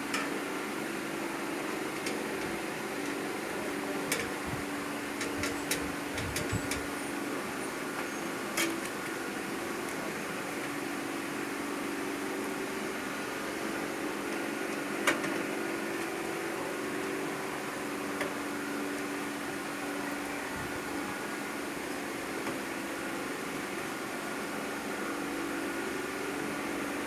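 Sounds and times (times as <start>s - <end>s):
mechanical fan hum: 0.0s - 27.0s.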